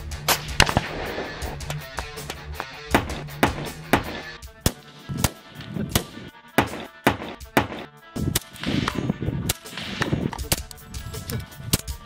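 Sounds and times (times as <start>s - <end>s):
background music: 0.0s - 12.0s
rifle shots: 0.3s - 1.6s, 2.2s - 10.7s.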